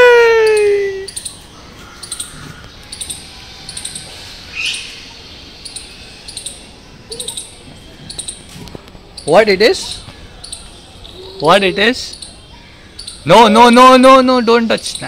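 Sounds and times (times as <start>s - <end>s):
small bird chirping: 0.3s - 15.0s.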